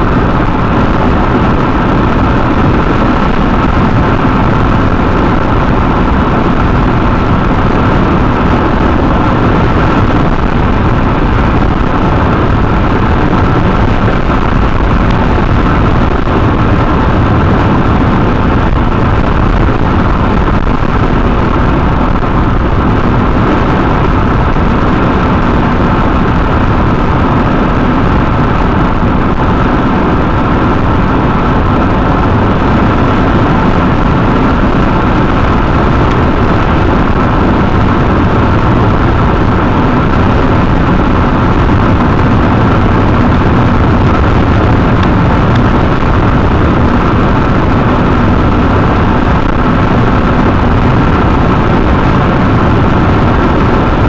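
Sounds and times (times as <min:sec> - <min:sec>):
car road noise: 0:00.0 - 0:54.0
faint steady hum: 0:00.0 - 0:54.0.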